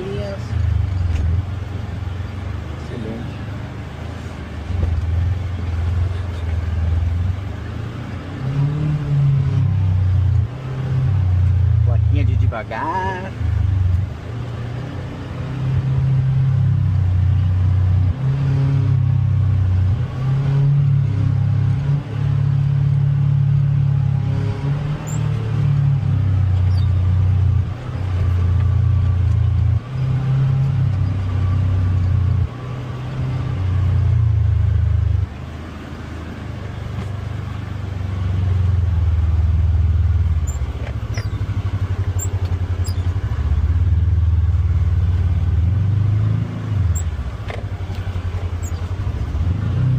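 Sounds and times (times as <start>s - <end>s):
utility vehicle engine revving: 0.0s - 49.9s.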